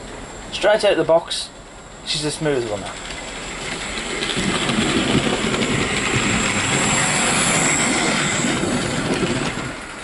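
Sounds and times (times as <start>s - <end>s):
model train rattling along track: 0.4s - 10.0s.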